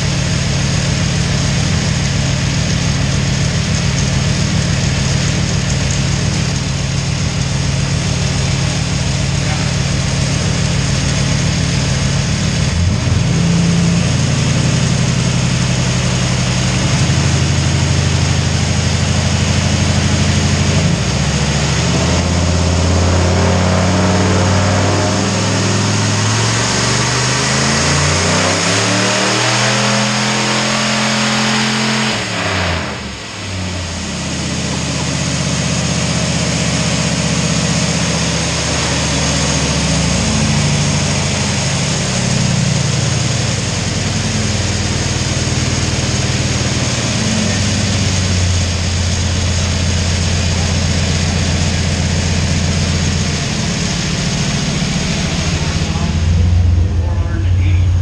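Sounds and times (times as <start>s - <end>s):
truck engine revving on dyno: 0.0s - 58.0s.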